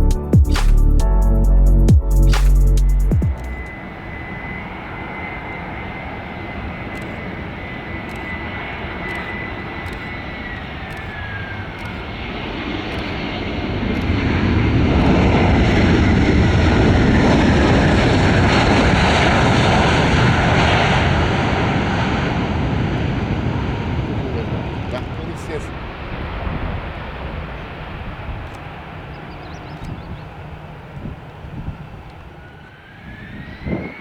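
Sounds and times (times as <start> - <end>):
deep jet engine rumble: 0.0 - 34.0
jet engine whine: 2.5 - 34.0.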